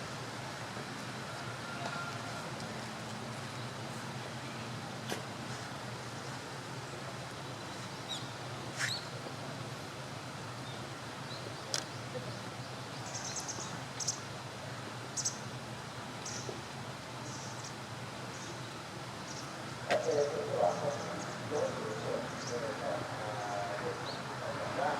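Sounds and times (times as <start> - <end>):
steady hiss and low hum: 2.2 - 24.9.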